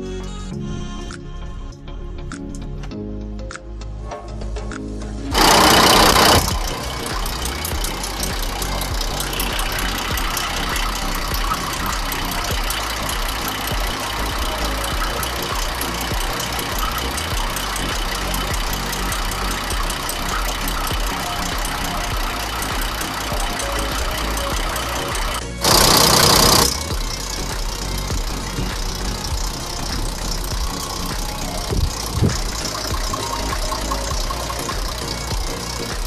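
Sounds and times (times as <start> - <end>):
diesel truck engine idling: 5.3 - 36.0
valve gear ticking clatter: 5.3 - 36.0.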